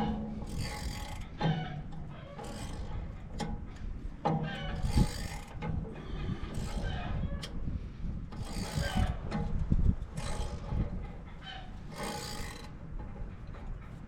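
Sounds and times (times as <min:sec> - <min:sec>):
hand tools clanking on metal: 0:00.0 - 0:07.6, 0:08.3 - 0:14.0.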